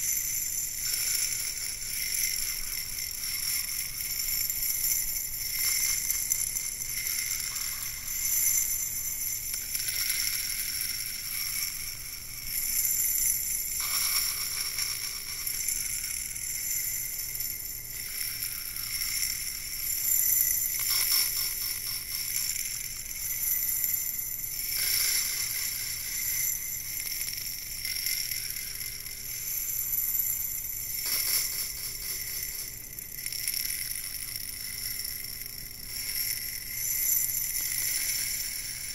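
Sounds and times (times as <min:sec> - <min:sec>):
thin high ringing: 0:00.0 - 0:38.9.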